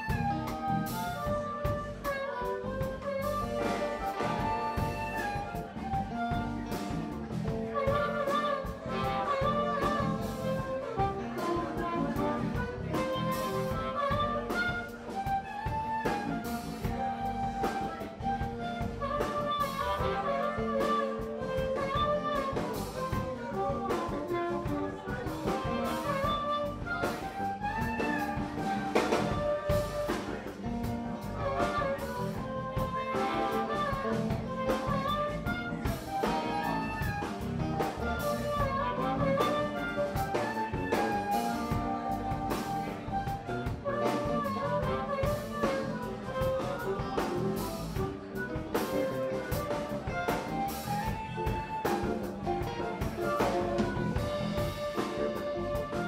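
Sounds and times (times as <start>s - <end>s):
instrumental music with steady beat: 0.0s - 56.0s.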